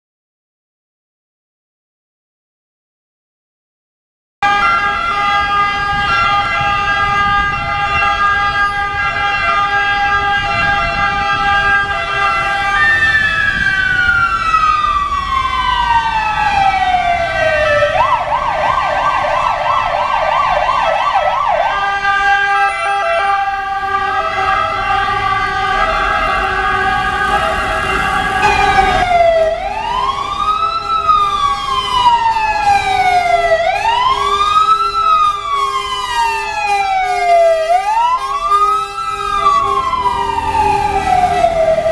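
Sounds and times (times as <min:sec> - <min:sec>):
ambulance sirens wailing and yelping: 0:04.4 - 0:41.9
traffic rumble: 0:04.5 - 0:41.9.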